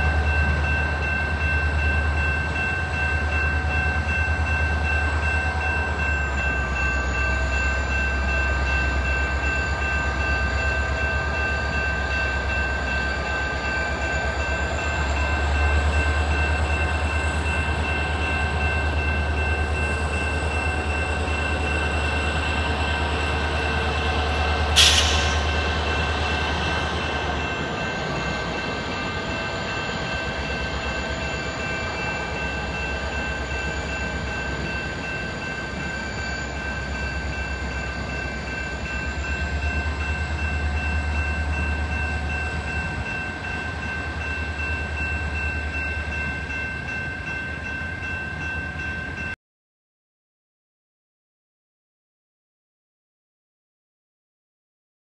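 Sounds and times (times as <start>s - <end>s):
train wheel flange squeal: 0.0s - 49.3s
train rumble: 0.0s - 49.4s.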